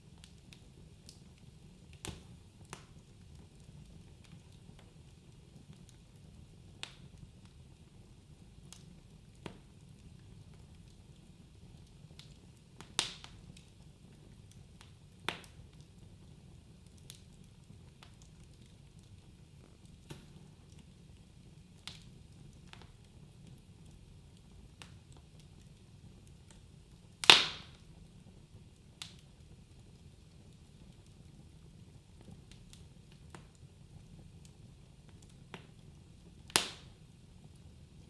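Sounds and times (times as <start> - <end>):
fire rumbling: 0.0 - 38.0
wood fire crackling and popping: 0.0 - 38.0.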